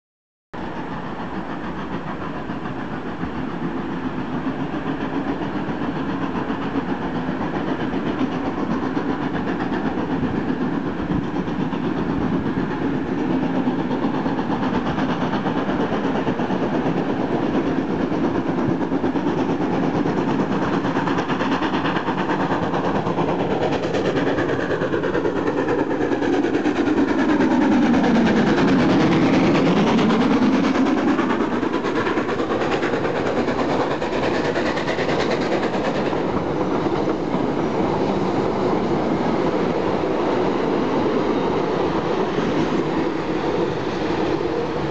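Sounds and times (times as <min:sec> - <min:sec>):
steam locomotive approaching: 0:00.6 - 0:44.9.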